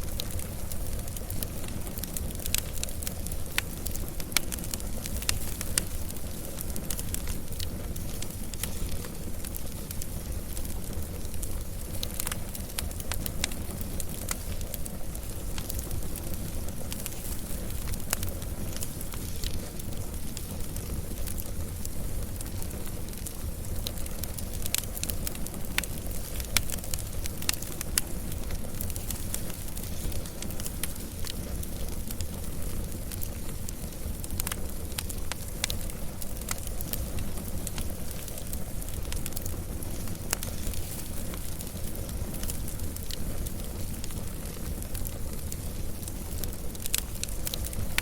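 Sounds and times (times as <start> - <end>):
fire crackling and popping: 0.0 - 48.0
low rumble of flame: 0.0 - 48.0.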